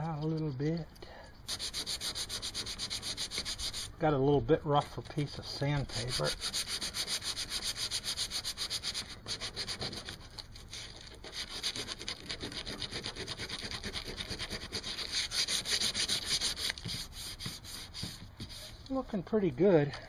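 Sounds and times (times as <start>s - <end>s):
sandpaper rubbing on plastic: 1.5s - 4.0s, 5.2s - 19.0s.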